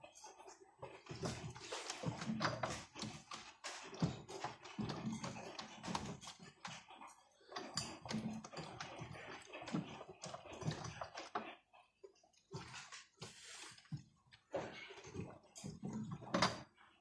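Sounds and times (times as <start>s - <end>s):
toy washing machine sloshing water: 0.0s - 17.0s.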